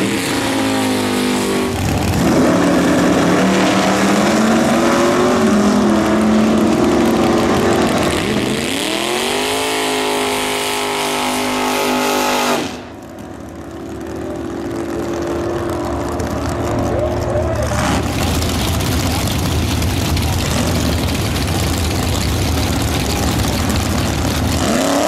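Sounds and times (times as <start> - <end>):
drag car engines accelerating: 0.0 - 25.0.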